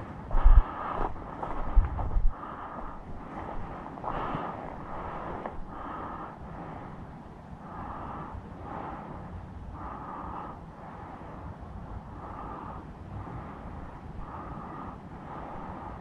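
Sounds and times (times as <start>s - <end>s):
person breathing hard: 0.0s - 16.0s
wind rumble on microphone: 0.0s - 16.0s.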